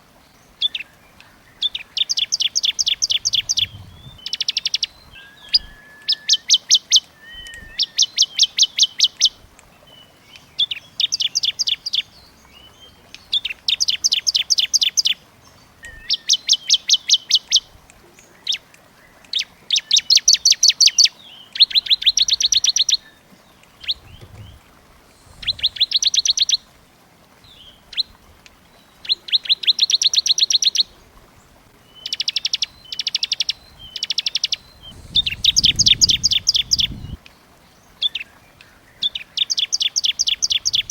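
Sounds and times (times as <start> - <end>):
songbird singing rapid trills: 0.4 - 26.6, 27.4 - 31.1, 31.8 - 40.9.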